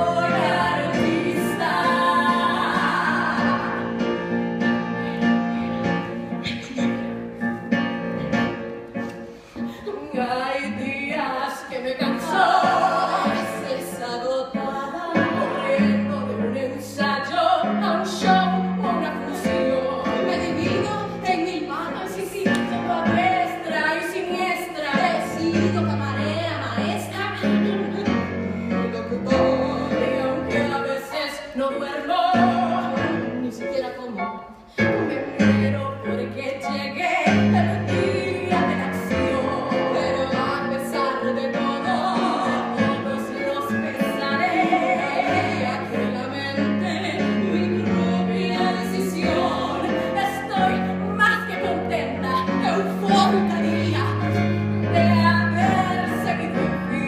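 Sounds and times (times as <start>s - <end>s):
woman singing: 0.0s - 4.0s, 9.8s - 57.0s
piano accompaniment: 0.0s - 57.0s.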